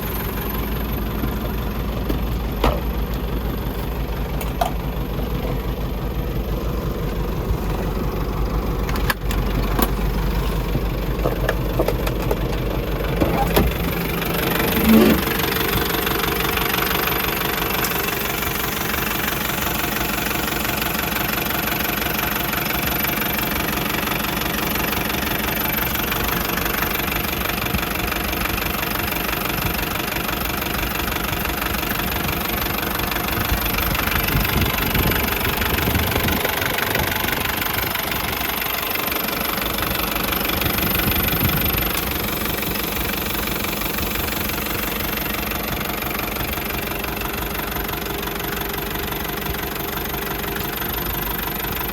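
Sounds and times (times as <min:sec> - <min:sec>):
diesel truck engine clattering: 0:00.0 - 0:51.9.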